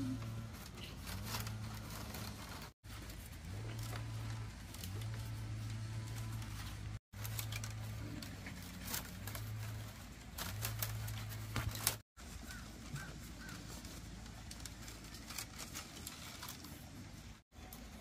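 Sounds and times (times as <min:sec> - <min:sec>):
bamboo strips rustling and clicking: 0:00.0 - 0:18.0.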